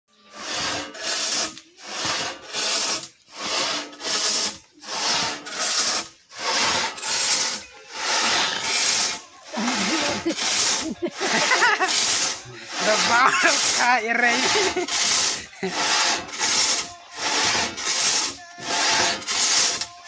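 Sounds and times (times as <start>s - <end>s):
pit saw rasping through wood: 0.2s - 20.0s.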